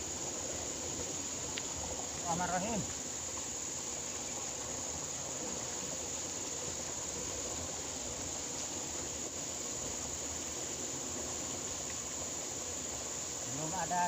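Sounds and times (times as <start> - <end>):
insects droning: 0.0 - 14.0
rushing hiss: 0.0 - 14.0.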